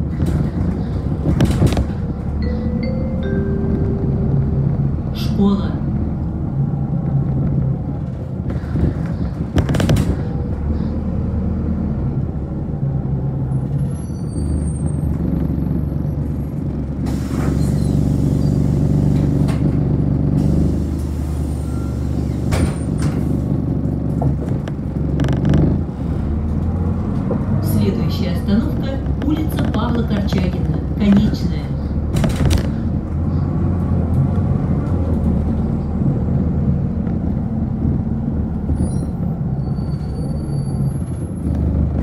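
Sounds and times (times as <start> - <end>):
bus engine hum: 0.0 - 42.0.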